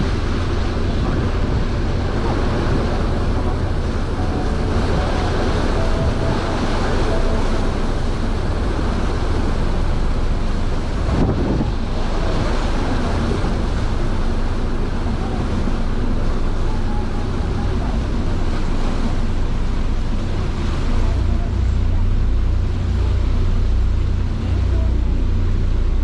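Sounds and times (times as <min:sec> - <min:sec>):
ship engine rumble: 0:00.0 - 0:26.0
wake water rushing: 0:00.0 - 0:26.0
wind buffeting microphone: 0:00.0 - 0:26.0.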